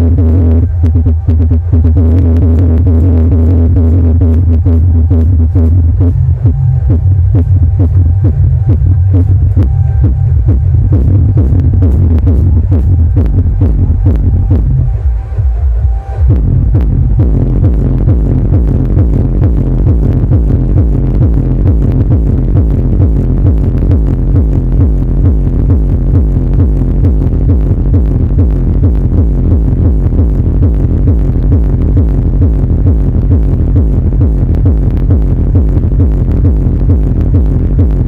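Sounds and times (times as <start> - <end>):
bass-heavy electronic dance music: 0.0 - 38.0.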